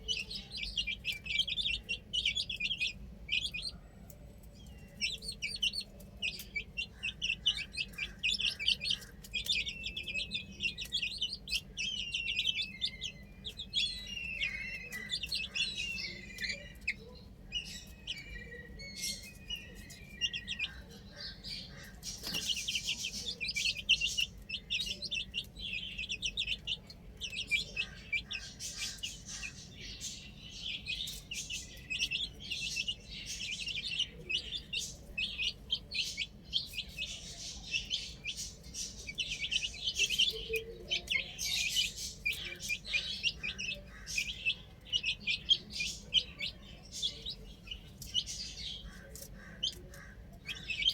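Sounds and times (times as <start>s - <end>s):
baby chicks peeping: 0.0s - 50.9s.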